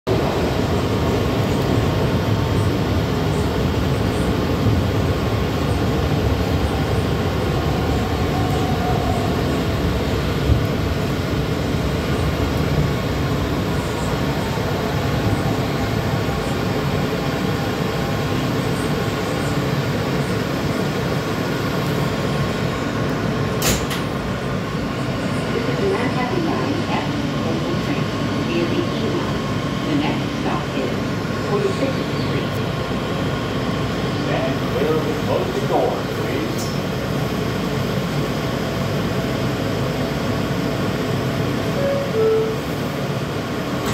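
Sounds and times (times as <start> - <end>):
subway wheels rumbling on rails: 0.0 - 43.9.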